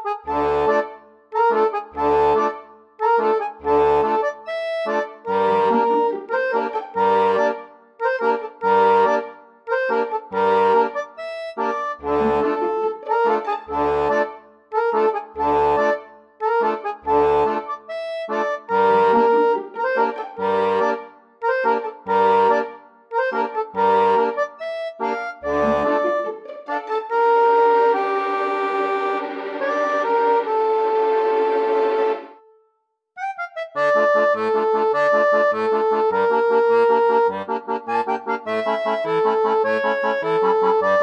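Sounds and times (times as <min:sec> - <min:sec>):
instrumental music with steady beat: 0:00.0 - 0:41.0.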